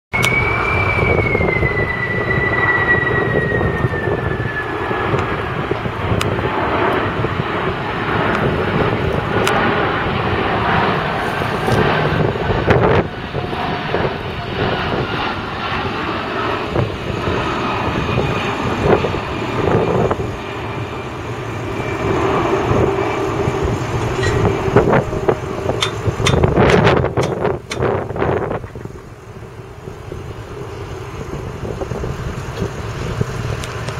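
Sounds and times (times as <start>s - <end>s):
jet engines roaring overhead: 0.1s - 33.9s
jet fan whine: 0.1s - 33.9s.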